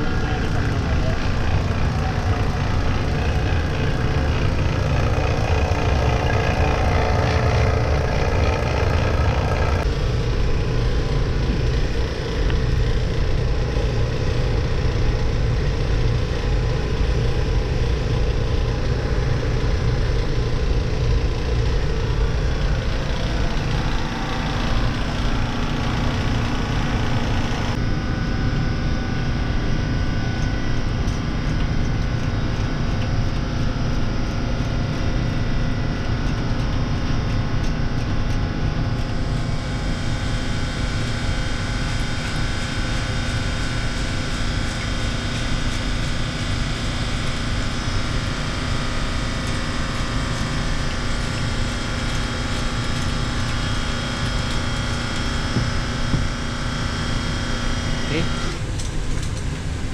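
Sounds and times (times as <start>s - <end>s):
ship machinery droning: 0.0s - 59.9s.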